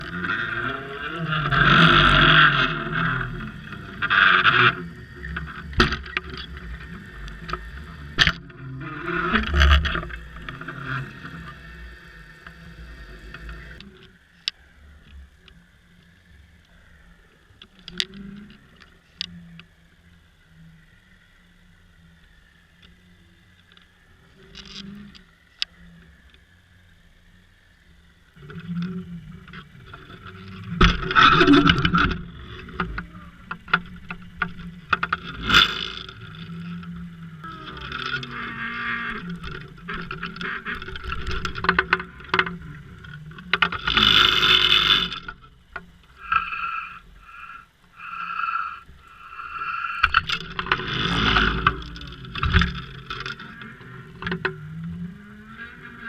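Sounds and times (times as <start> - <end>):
quiet steady hum: 0.0 - 56.0.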